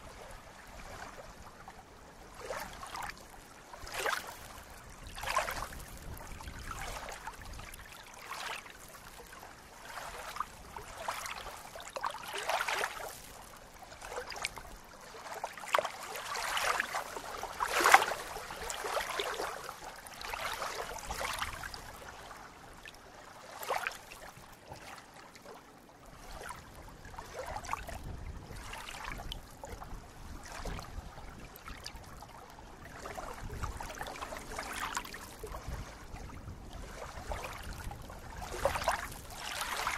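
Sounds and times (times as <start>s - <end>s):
small waves lapping on lake edge: 0.0s - 39.9s.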